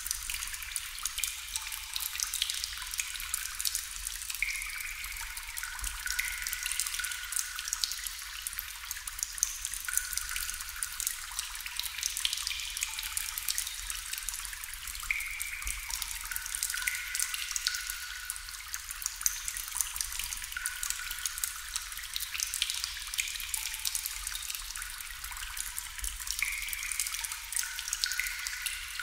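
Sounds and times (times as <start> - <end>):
water drops dripping into water: 0.0 - 29.0.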